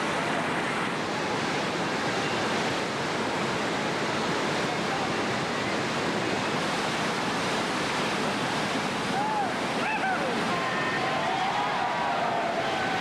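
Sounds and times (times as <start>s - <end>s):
whitewater rushing over rapids: 0.0s - 13.0s.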